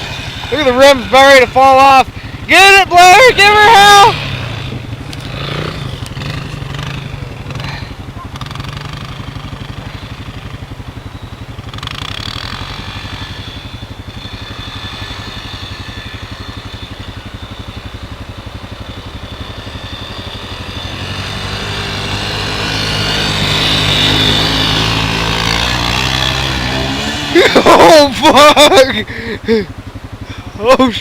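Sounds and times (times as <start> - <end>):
small vehicle engine revving: 0.0 - 30.8.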